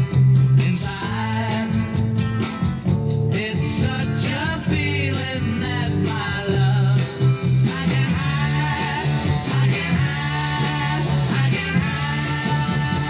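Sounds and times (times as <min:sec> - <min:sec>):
rock song with singing and guitar: 0:00.0 - 0:13.0.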